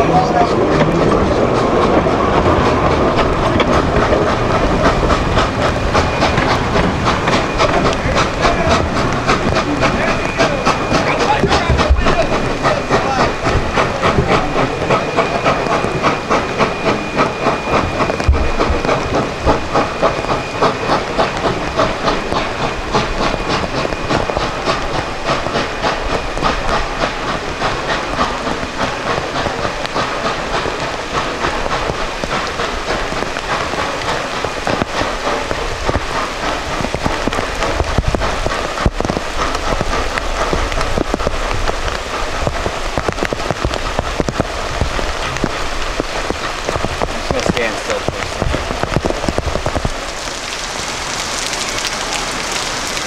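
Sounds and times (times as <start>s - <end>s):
hissing steam: 0.0s - 53.0s
steam train exhaust beat: 0.0s - 53.0s.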